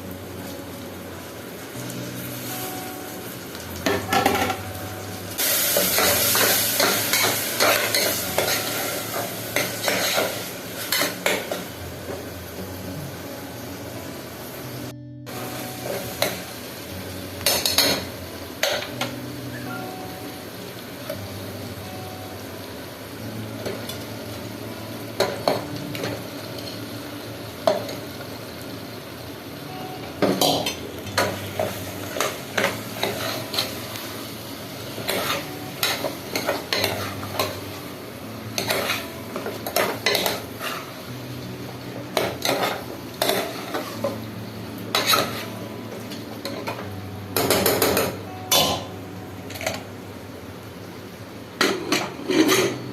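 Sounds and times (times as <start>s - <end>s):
light sizzle of frying: 0.0s - 52.9s.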